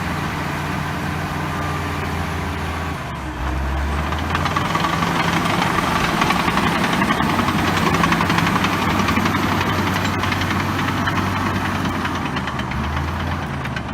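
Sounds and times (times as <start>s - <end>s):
bulldozer diesel engine running: 0.0s - 13.9s.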